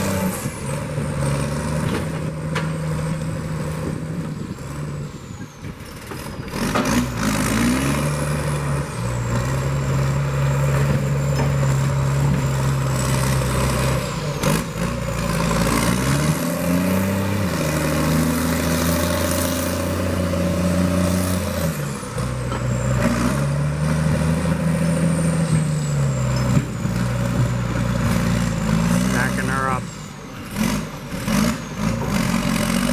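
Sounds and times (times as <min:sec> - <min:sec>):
heavy diesel engine revving: 0:00.0 - 0:32.9.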